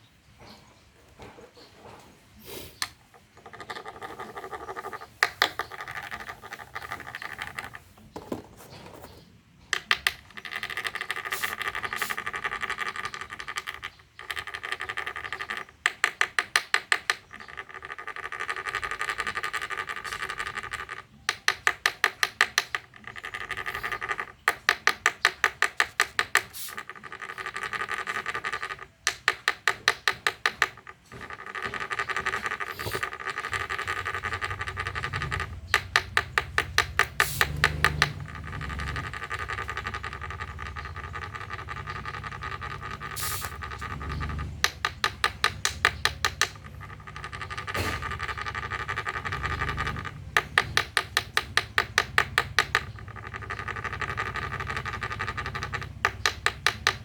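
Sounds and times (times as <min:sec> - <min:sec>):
rapid clicks: 0:09.6 - 0:57.0.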